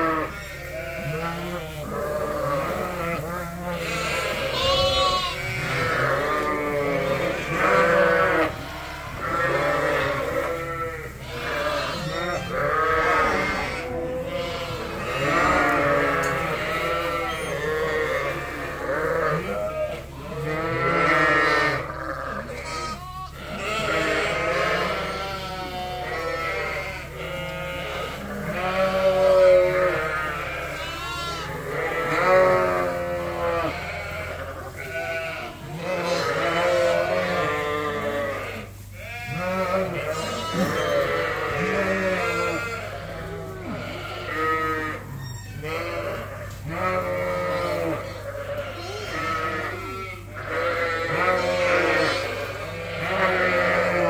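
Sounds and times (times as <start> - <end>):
sheep and lambs bleating: 0.0 - 54.0.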